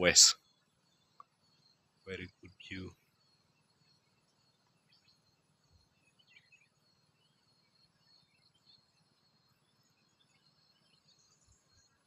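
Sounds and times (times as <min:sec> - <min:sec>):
faint high bird chirps: 0:00.0 - 0:12.0.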